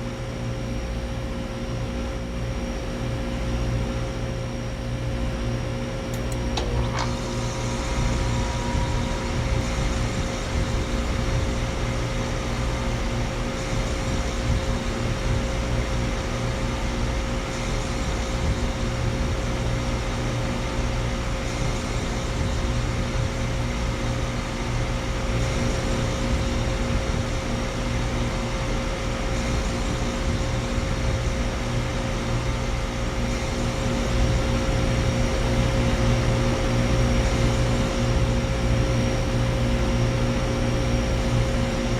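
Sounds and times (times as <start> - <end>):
compressor hum: 0.0 - 41.9
condenser fans rushing: 0.0 - 41.9.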